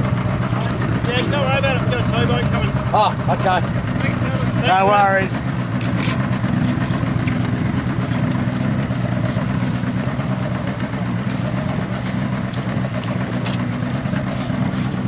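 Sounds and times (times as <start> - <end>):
motorboat engine humming: 0.0 - 15.0.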